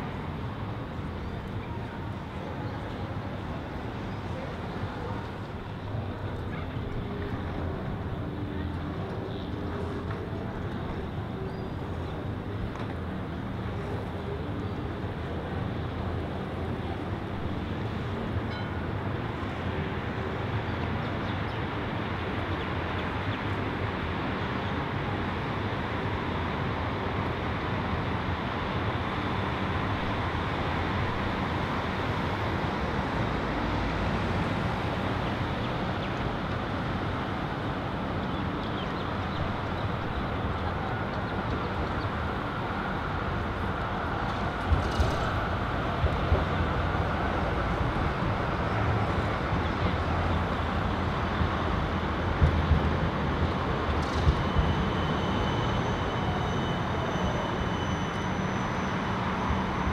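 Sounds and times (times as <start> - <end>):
trams and cars on a road: 0.0 - 59.9.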